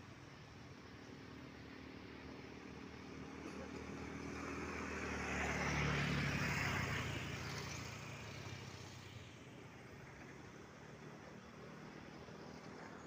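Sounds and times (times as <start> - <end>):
vehicle passing by: 1.4 - 13.0.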